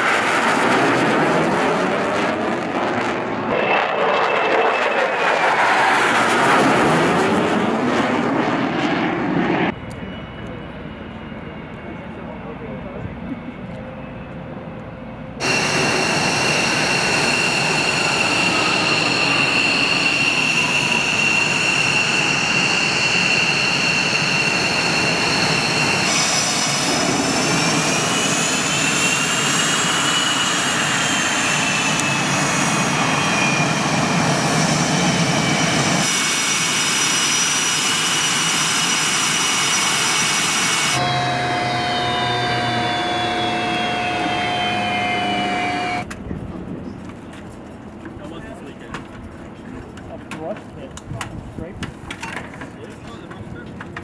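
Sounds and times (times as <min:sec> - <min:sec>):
jet engine rushing roar: 0:00.0 - 0:47.3
jet engine turbine whine: 0:00.0 - 0:54.0.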